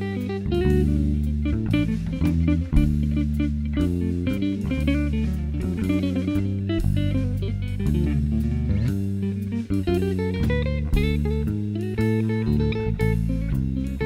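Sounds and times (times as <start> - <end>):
bass guitar: 0.0 - 14.0
drum kit: 0.0 - 14.0
electric guitar lines: 0.0 - 14.0.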